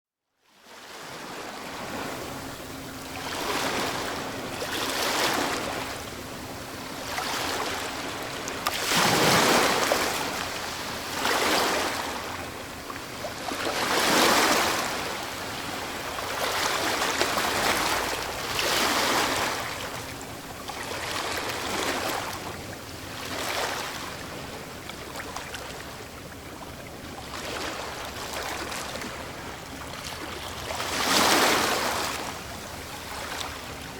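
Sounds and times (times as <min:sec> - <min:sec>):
sea waves breaking on shore: 0:00.6 - 0:33.9.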